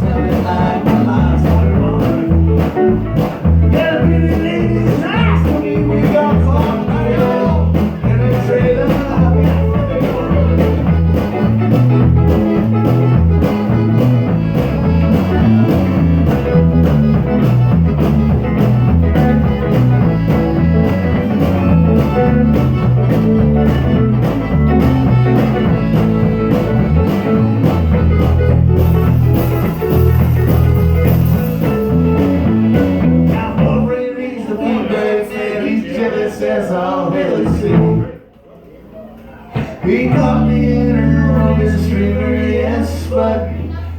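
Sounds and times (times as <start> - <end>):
blues-rock music: 0.0 - 34.0, 39.8 - 43.6.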